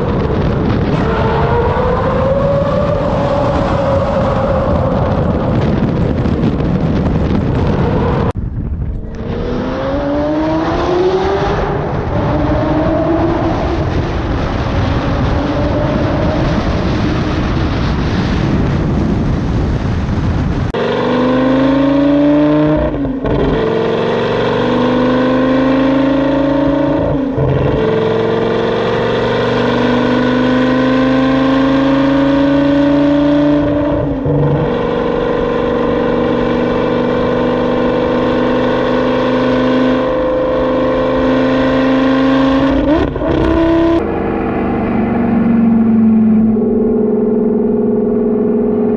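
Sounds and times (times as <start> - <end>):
sports car engine accelerating: 0.0 - 17.8, 20.7 - 48.9.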